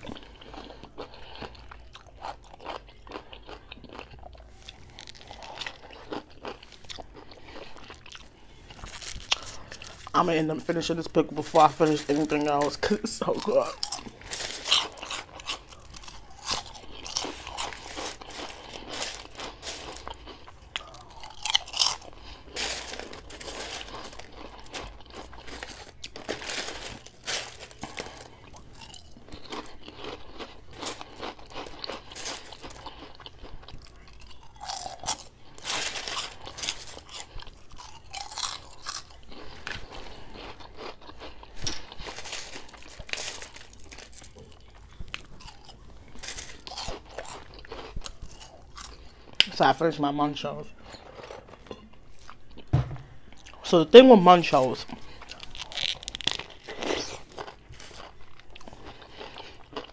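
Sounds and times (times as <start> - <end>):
crunching potato crisps: 0.0 - 51.6, 53.3 - 59.9.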